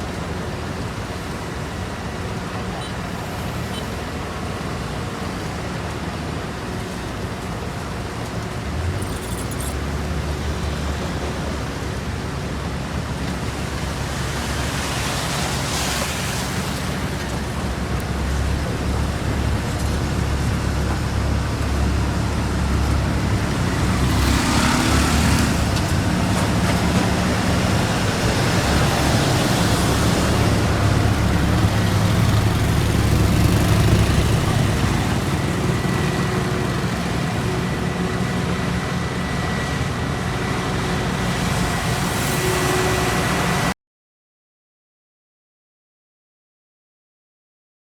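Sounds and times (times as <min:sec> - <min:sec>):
heavy machinery engines rumbling: 0:00.0 - 0:43.7.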